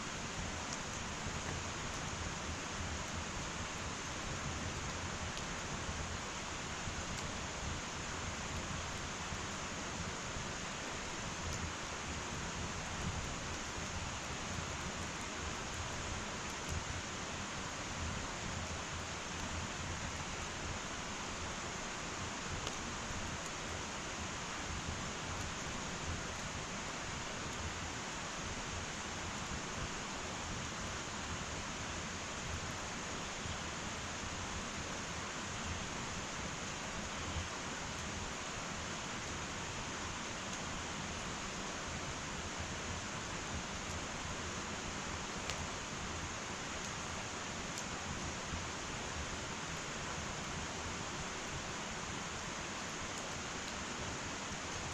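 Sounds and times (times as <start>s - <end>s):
wood fire hissing and crackling: 0.0s - 54.9s.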